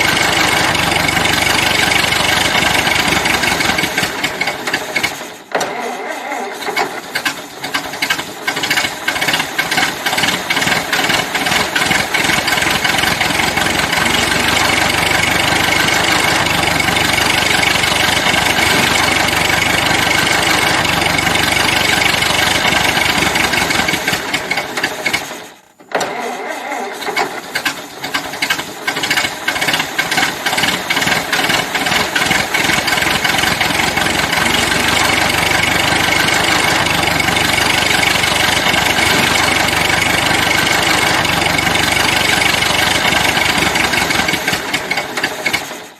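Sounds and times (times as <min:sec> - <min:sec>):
old car engine starting and running: 0:00.0 - 0:45.9.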